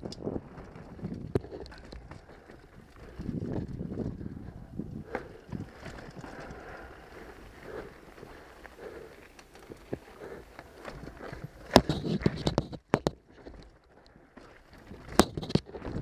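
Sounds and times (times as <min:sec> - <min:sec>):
bike clicks and knocks: 0:00.0 - 0:16.0
bike tyres on dirt and rocks: 0:00.0 - 0:16.0.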